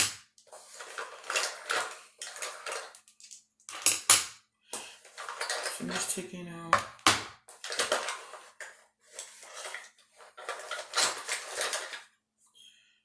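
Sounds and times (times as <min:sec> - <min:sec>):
makeup brushes clattering: 0:00.0 - 0:04.2, 0:04.8 - 0:12.1.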